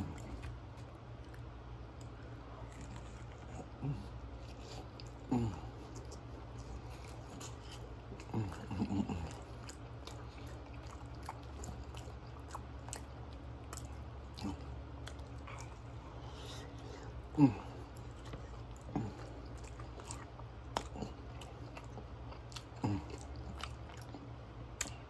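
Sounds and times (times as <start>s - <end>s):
close-up chewing: 0.0s - 25.0s
steady low hum: 0.0s - 25.0s.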